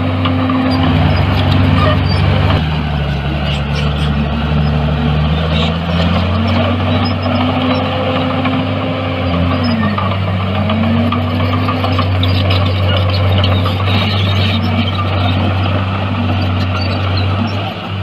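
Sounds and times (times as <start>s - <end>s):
heavy machine diesel engine: 0.0s - 18.0s.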